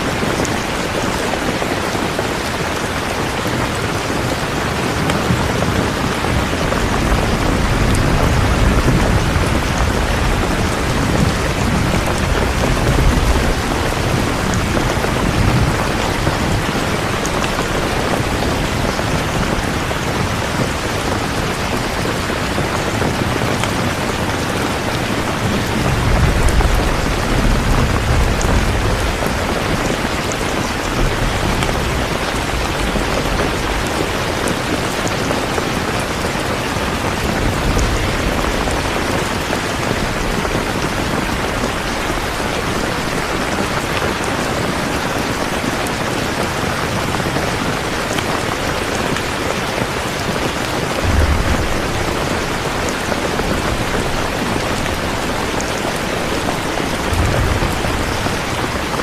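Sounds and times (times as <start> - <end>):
heavy rainfall: 0.0 - 59.0
thunder rumbling: 0.0 - 59.0.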